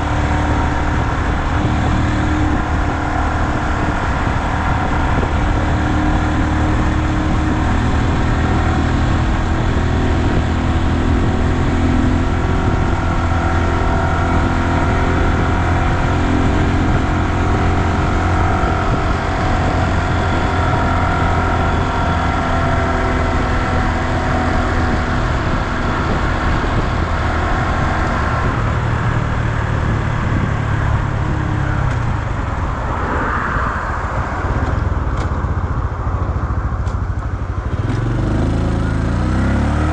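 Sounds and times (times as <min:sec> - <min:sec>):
motorcycle engine running: 0:00.0 - 0:39.9
road noise: 0:00.0 - 0:39.9
wind noise on microphone: 0:00.0 - 0:39.9.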